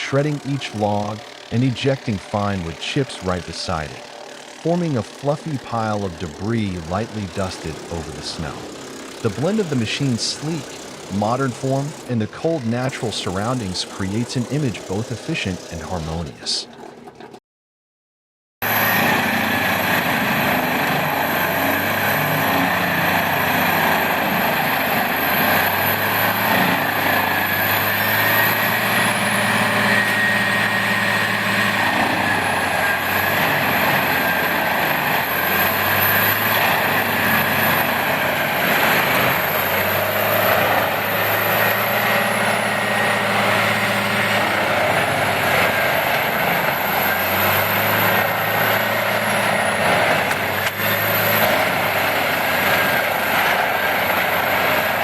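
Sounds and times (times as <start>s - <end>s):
high whine: 0.0s - 16.7s, 18.6s - 55.0s
wood chipper running: 0.0s - 17.4s, 18.6s - 55.0s.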